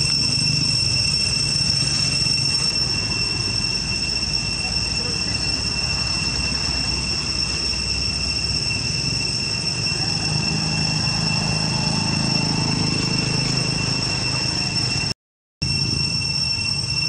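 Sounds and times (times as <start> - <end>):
motorbike engine rumbling: 0.0 - 15.1
insects droning: 0.0 - 17.0.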